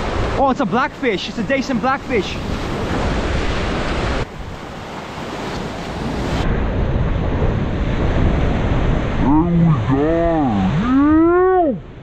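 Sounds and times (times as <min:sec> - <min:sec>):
ocean surf breaking on rocks: 0:00.0 - 0:12.0
wind buffeting microphone: 0:02.2 - 0:12.0.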